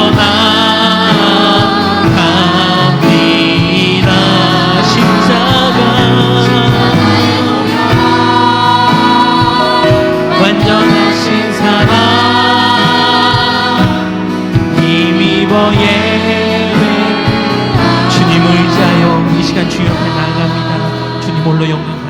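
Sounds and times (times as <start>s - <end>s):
bass and drums: 0.0s - 22.0s
choir singing worship song: 0.0s - 22.0s.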